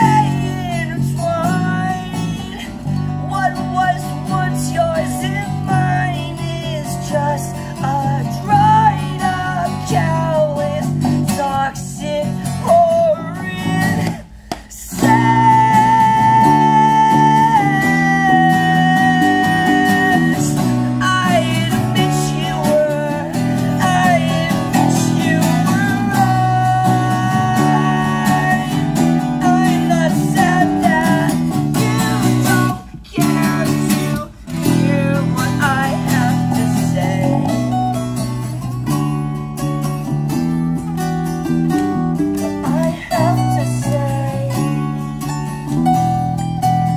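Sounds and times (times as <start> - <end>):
man singing high melody: 0.0 - 38.7, 41.9 - 46.9
bass guitar: 0.0 - 46.9
strummed acoustic guitar: 0.0 - 46.9.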